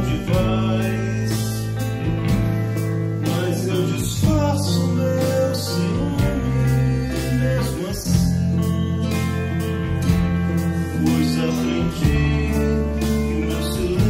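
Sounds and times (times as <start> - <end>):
acoustic guitar: 0.0 - 14.0
electric bass: 0.0 - 14.0
electric guitar: 0.0 - 14.0
man singing: 0.0 - 14.0.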